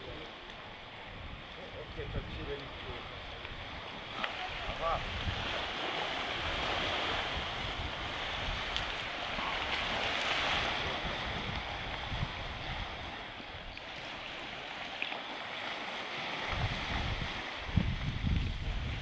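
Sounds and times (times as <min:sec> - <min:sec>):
wind buffeting microphone: 0:00.0 - 0:14.8, 0:15.6 - 0:19.0
waves washing over rocks: 0:00.0 - 0:19.0.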